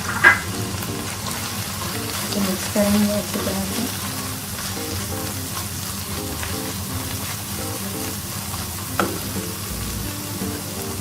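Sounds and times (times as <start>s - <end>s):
paste sizzling in hot oil: 0.0s - 11.0s
soft background music: 0.0s - 11.0s.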